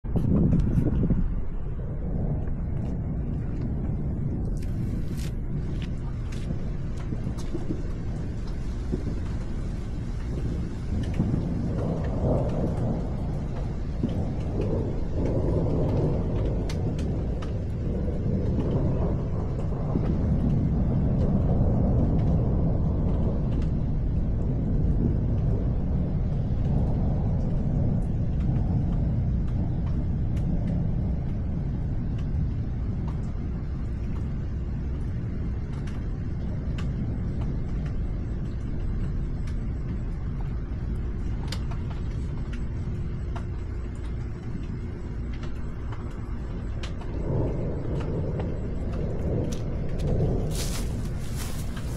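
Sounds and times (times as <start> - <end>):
rolling thunder rumble: 0.0 - 51.9
faint ticks: 2.5 - 51.9.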